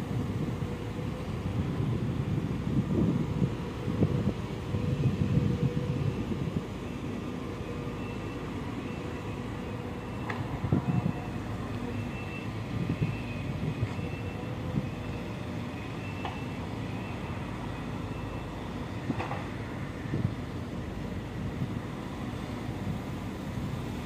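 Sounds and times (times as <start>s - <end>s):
excavator diesel engines running: 0.0s - 24.0s.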